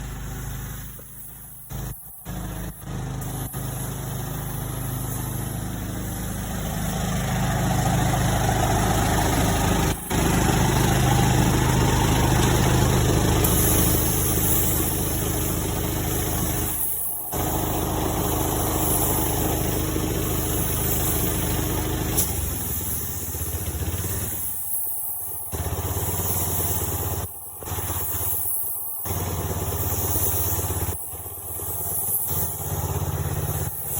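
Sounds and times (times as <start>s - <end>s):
motor running: 0.0s - 33.9s.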